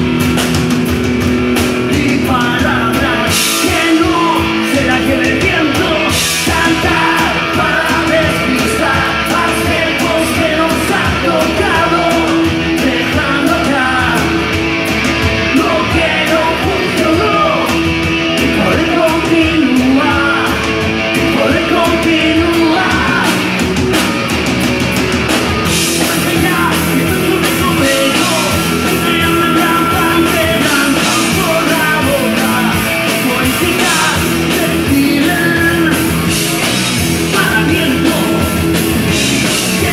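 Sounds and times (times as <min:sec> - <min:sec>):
live rock band playing: 0:00.0 - 0:39.9
man singing: 0:01.6 - 0:23.7, 0:25.7 - 0:39.9.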